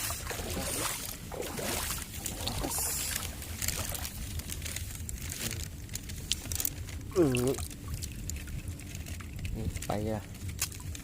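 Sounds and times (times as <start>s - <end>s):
steady low rumble: 0.0s - 11.0s
water sloshing around wading feet: 0.0s - 11.0s.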